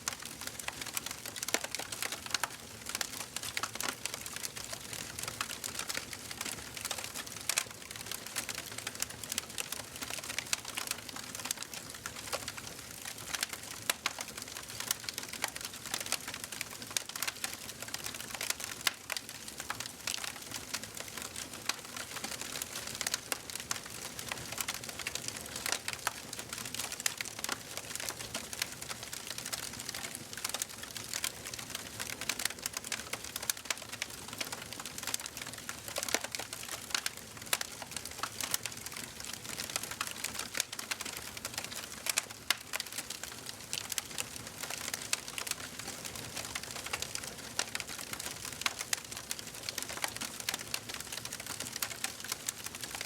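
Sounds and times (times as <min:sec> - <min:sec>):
wood fire crackling and popping: 0:00.1 - 0:53.0.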